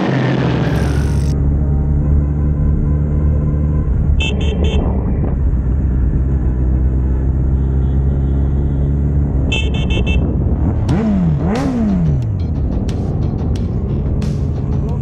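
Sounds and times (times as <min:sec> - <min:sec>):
vehicle engine running: 0:00.0 - 0:04.3, 0:05.0 - 0:15.0.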